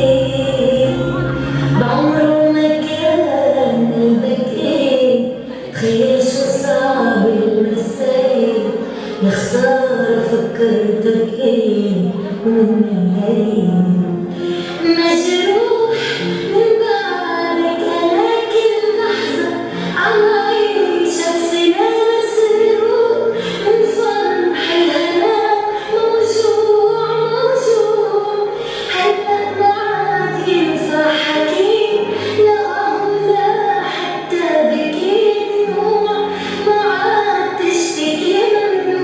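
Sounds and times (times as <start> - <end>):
instrumental backing music: 0.0 - 39.0
woman singing: 0.0 - 39.0.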